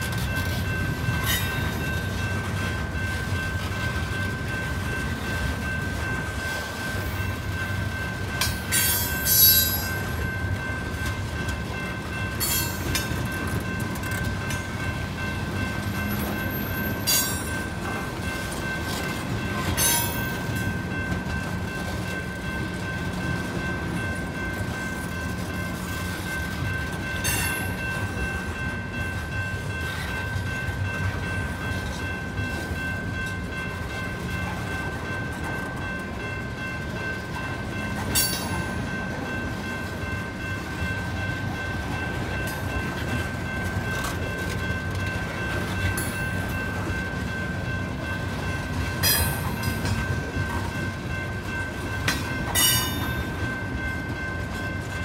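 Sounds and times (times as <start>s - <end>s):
train rumbling past: 0.0s - 55.0s
wheels clicking and squeaking on rails: 0.0s - 55.0s.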